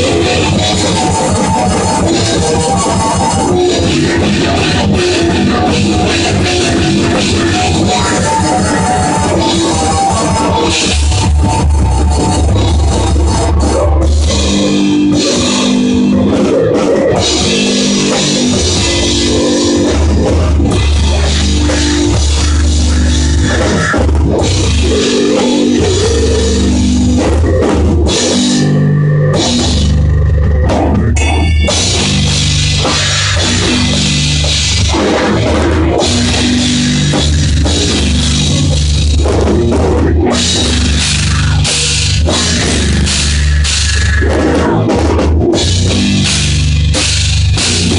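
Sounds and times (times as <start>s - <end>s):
drum kit with cymbals: 0.0s - 47.9s
heavy metal electric guitar riffs: 0.0s - 47.9s.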